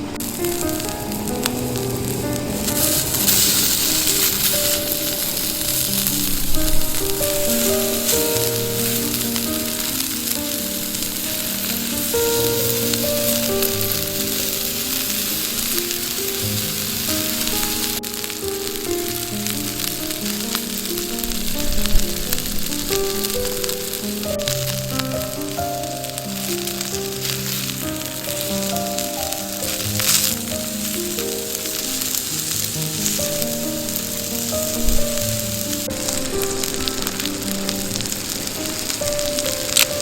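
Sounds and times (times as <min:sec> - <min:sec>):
food sizzling in a frying pan: 0:00.0 - 0:40.0
soft background music: 0:00.0 - 0:40.0.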